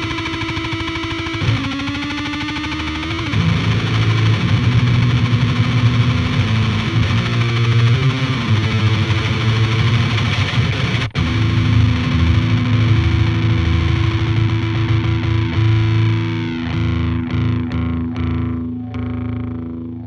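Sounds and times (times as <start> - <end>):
distorted electric guitar riffing: 0.0 - 20.0.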